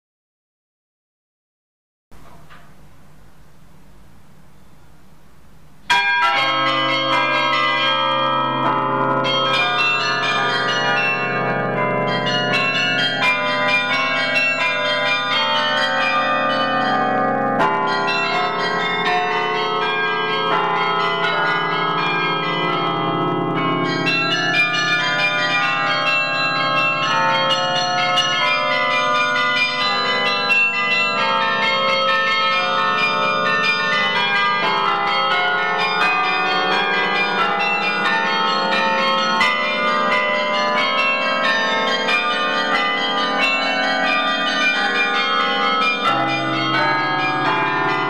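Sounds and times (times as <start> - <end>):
low bass bells: 2.2 - 48.0
carillon bells melody: 5.9 - 48.0.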